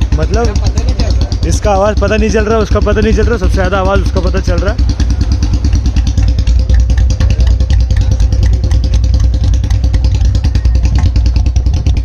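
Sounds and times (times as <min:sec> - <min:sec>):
motorcycle at higher idle: 0:00.0 - 0:12.0
motorcycle engines idling: 0:00.0 - 0:12.0.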